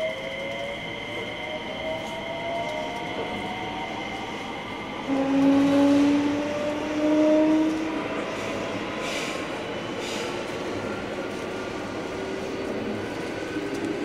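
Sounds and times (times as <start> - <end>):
electric train inverter whine: 0.0 - 14.0
rail noise: 0.0 - 14.0.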